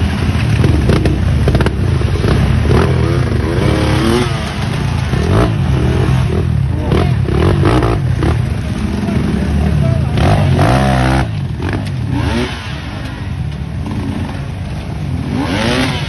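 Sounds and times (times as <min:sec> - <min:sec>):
dense low engine rumble: 0:00.0 - 0:16.0
engine revving: 0:00.0 - 0:16.0.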